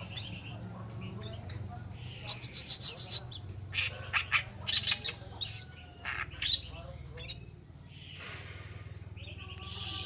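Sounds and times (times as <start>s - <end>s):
bird chattering song: 0.0s - 8.3s, 9.1s - 10.0s.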